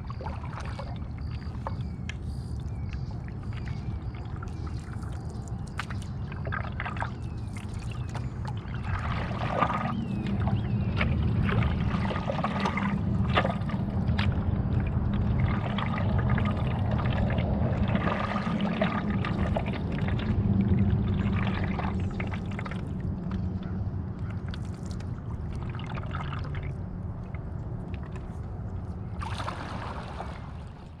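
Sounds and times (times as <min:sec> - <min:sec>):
paddle splashing in water: 0:00.0 - 0:01.8, 0:05.7 - 0:23.4, 0:24.2 - 0:31.0
low rumble: 0:03.0 - 0:31.0.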